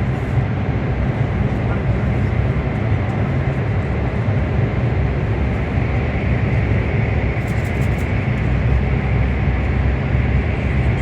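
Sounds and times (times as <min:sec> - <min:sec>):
train rumble inside cabin: 0:00.0 - 0:11.0.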